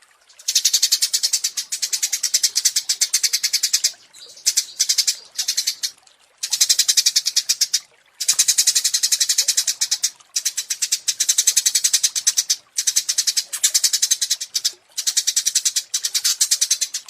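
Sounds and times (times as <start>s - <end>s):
songbird singing rapid trills: 0.4s - 17.0s.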